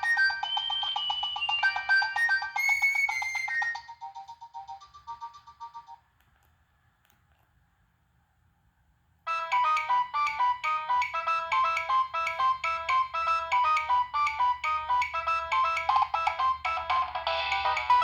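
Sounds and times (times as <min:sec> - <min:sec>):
phone ringtone melody: 0:00.0 - 0:06.0, 0:09.3 - 0:18.0.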